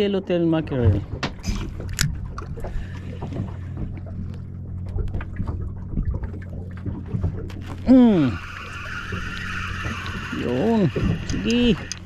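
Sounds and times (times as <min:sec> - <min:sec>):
steady low hum: 0:00.0 - 0:12.0
water slapping against a hull: 0:00.4 - 0:12.0.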